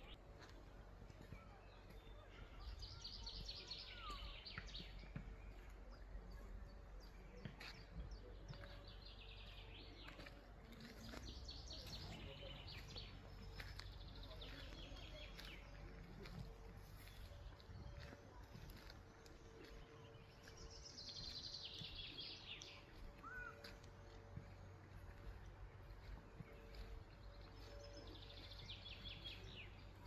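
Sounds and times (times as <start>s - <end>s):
birds singing: 0.0s - 30.0s
faint low rumble: 0.0s - 30.0s.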